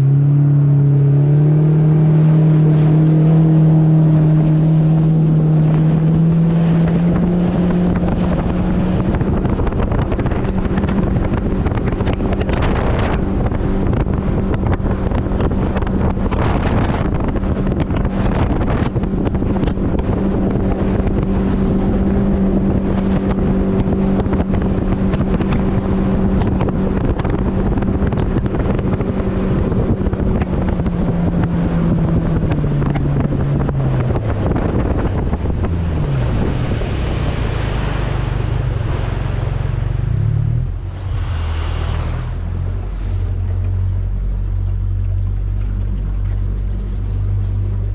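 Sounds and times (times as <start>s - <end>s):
outboard boat engine: 0.0s - 47.9s
water rushing and splashing: 0.0s - 47.9s
wind on microphone: 0.0s - 47.9s.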